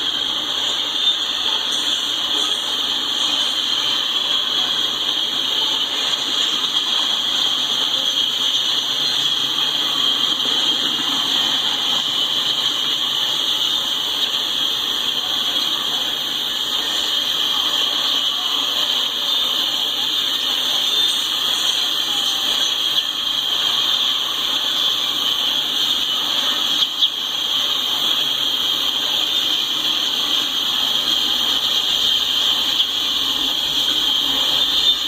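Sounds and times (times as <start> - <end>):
freight train wheels on rails: 0.0 - 35.0.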